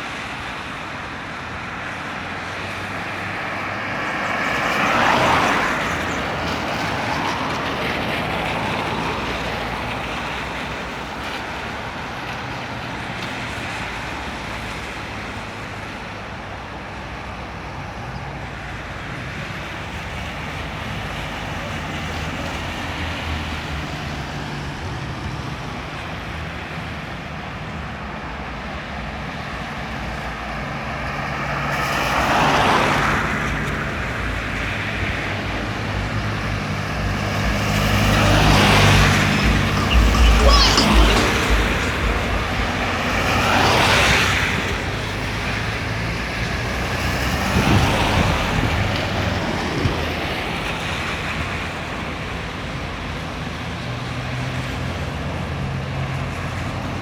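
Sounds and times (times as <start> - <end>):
highway traffic hum: 0.0 - 57.0.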